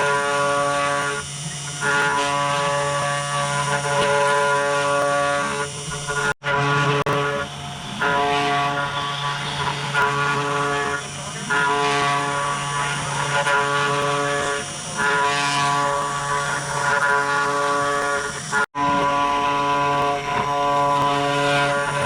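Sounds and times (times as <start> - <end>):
router motor whining: 0.0 - 22.0.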